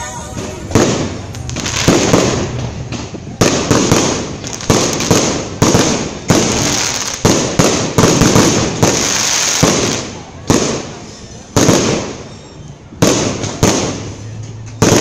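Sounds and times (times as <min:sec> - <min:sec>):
fireworks bangs: 0:00.0 - 0:15.0
fireworks crackling and fizzing: 0:00.0 - 0:15.0.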